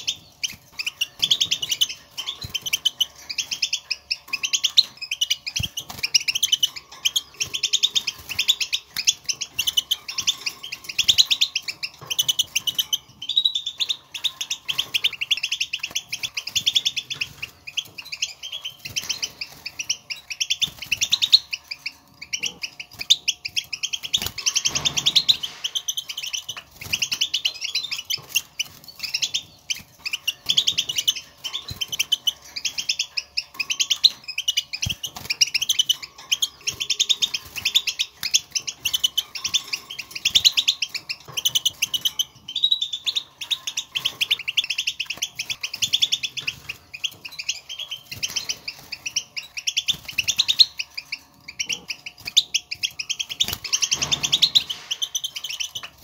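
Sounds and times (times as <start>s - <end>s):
goldfinch twittering: 0.0s - 56.0s.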